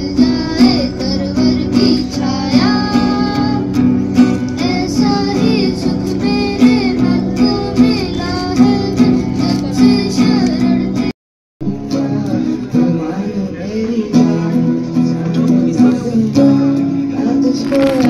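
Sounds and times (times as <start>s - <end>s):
guitar: 0.0s - 18.0s
person singing: 0.0s - 18.0s.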